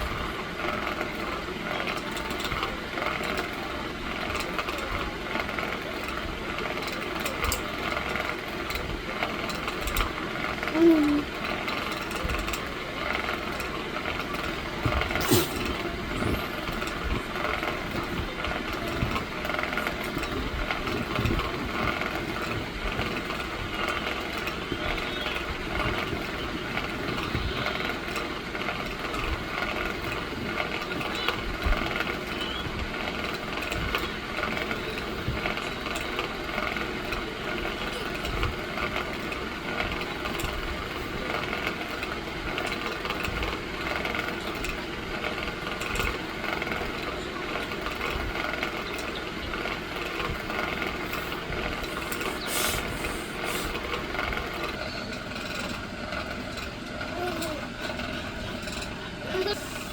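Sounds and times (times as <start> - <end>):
electric fan motor hum: 0.0 - 59.9
fan rattling: 0.0 - 59.9.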